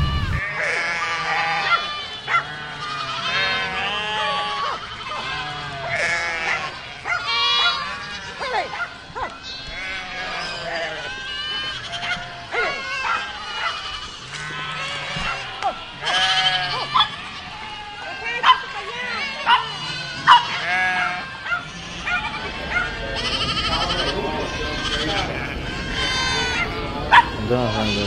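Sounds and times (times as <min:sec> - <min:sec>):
goats bleating: 0:00.0 - 0:28.0.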